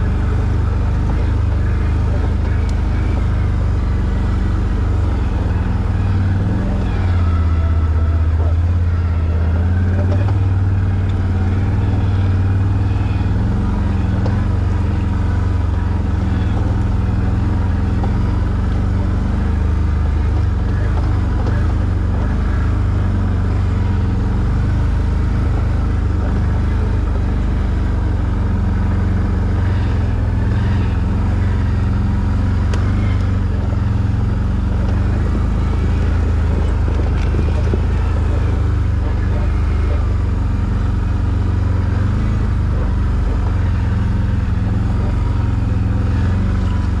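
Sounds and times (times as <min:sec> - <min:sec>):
quad engine droning: 0:00.0 - 0:47.0.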